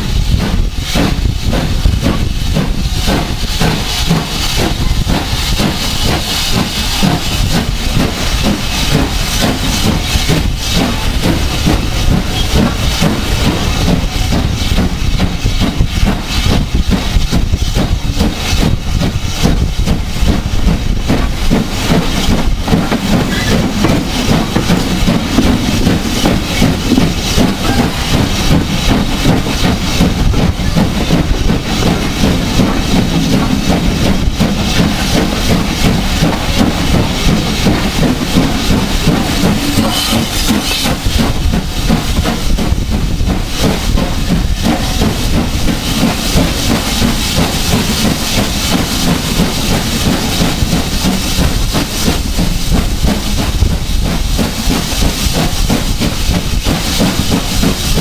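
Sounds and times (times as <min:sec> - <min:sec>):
steam locomotive exhaust beats: 0:00.0 - 0:58.0
train rumbling on rails: 0:00.0 - 0:58.0.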